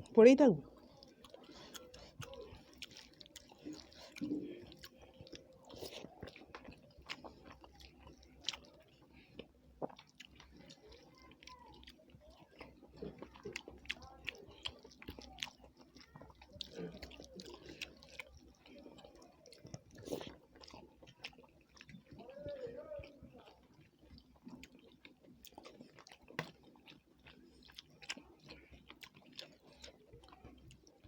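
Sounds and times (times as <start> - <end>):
people chewing food: 0.0 - 31.0.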